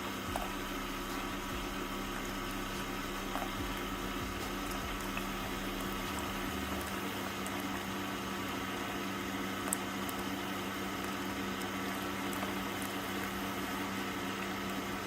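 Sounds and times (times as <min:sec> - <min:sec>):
coffee maker pump hum: 0:00.0 - 0:15.0.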